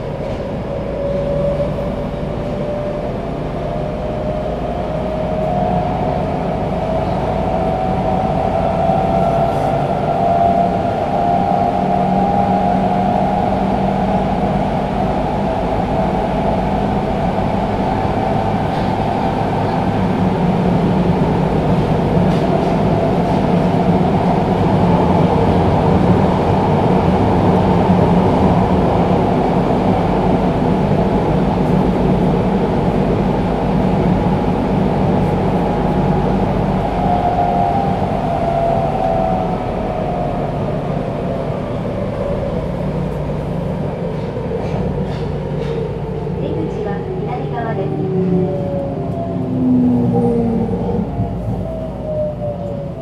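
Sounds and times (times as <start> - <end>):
subway car wheels rumbling: 0.0 - 53.0.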